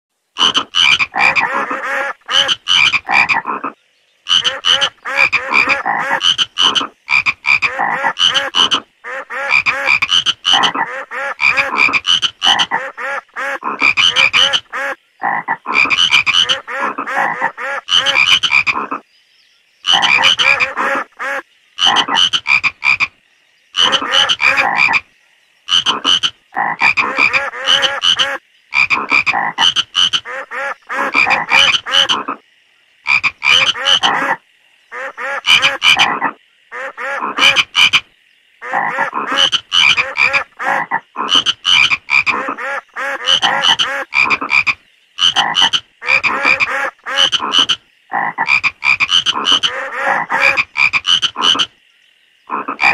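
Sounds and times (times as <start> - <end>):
frogs croaking: 0.4 - 52.9.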